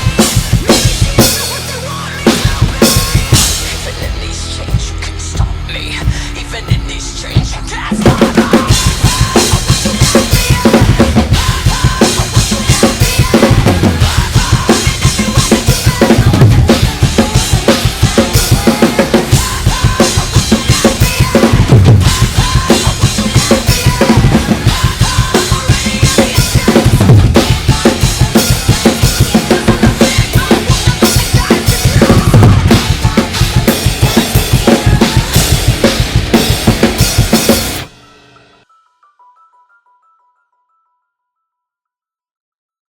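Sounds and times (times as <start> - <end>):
drum kit playing heavy metal: 0.0 - 38.6.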